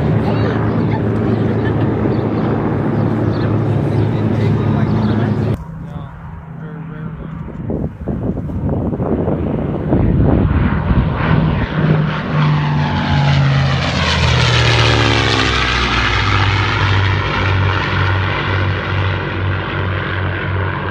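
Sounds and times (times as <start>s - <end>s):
propeller airplanes droning: 0.0s - 20.9s.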